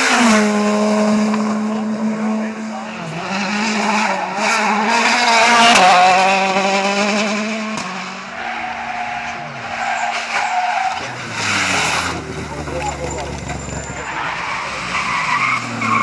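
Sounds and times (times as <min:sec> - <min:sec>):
quieter car engine: 0:00.0 - 0:16.0
rally car engines running hard: 0:00.0 - 0:16.0.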